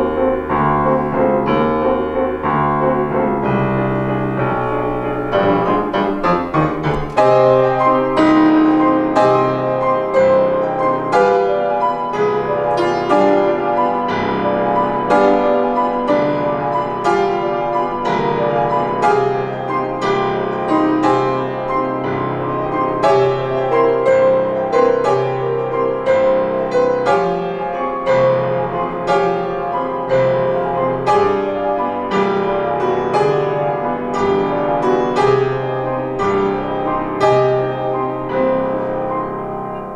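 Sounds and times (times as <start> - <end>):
grand piano playing: 0.0 - 39.9.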